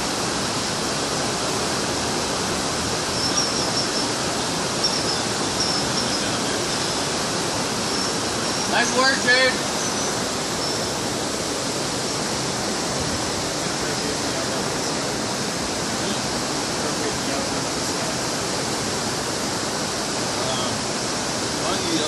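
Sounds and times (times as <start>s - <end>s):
rushing river: 0.0s - 22.0s.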